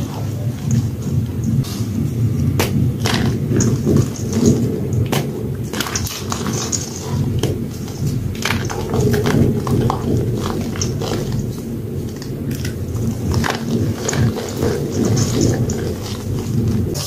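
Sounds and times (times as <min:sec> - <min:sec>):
clumps crackling apart: 0:00.0 - 0:17.0
hands squelching wet chalk in water: 0:02.3 - 0:17.0.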